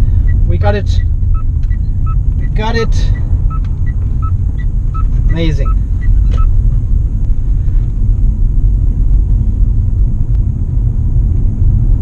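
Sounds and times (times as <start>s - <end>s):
road rumble inside car cabin: 0.0s - 12.0s.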